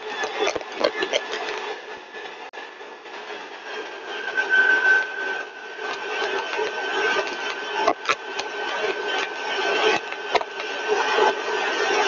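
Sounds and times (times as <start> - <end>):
compressor rushing noise: 0.0 - 12.0
high whine: 0.0 - 12.0.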